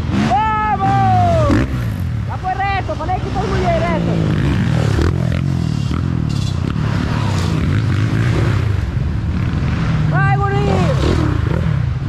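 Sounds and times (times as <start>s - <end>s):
motorcycles revving past: 0.0s - 12.0s.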